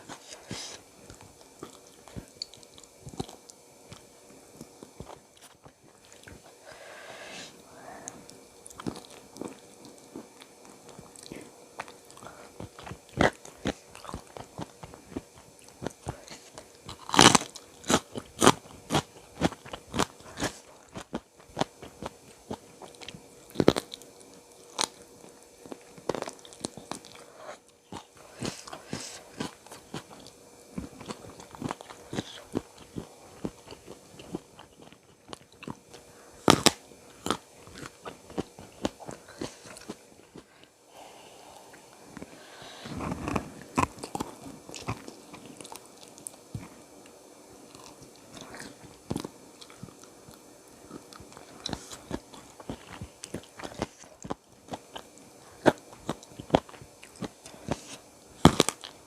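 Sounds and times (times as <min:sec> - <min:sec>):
person crunching and chewing: 0:00.0 - 0:47.1, 0:47.7 - 0:59.0.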